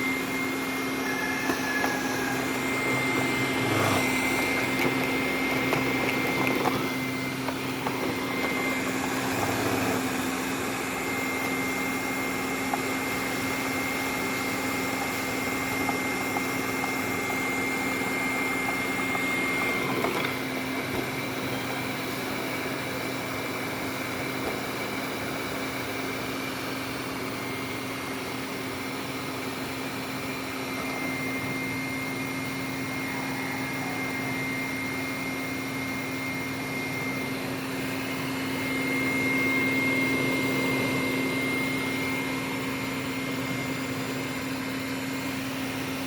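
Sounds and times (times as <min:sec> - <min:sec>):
high whine: 0:00.0 - 0:46.0
robot vacuum motor hum: 0:00.0 - 0:46.0.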